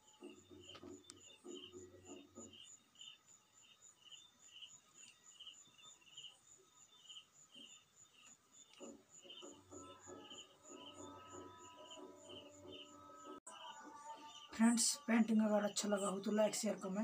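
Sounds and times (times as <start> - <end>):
high insect chirping pulse: 0.0 - 13.8
low insect trill: 0.0 - 17.0.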